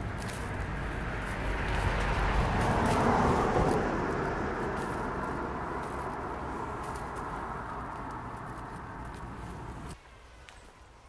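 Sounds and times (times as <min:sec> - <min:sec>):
low outdoor rumble: 0:00.0 - 0:10.0
rose bush leaves rustling: 0:00.0 - 0:11.0.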